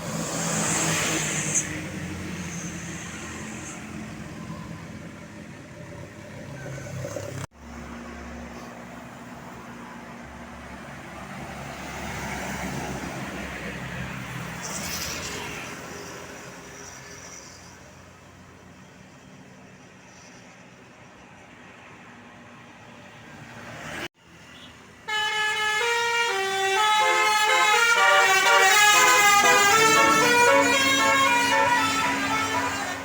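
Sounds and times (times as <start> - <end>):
vehicles passing by: 0.0 - 33.0.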